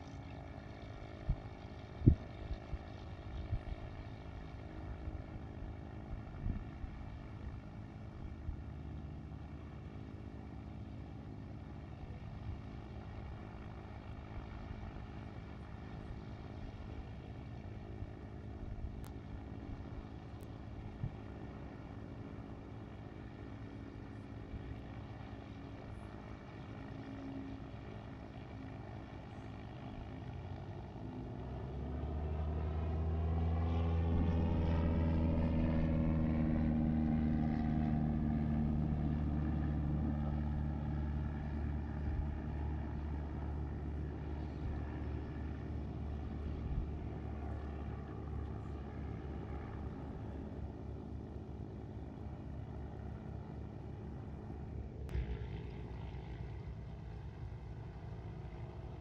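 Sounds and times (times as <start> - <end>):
propeller aircraft flying past: 0.0 - 59.0.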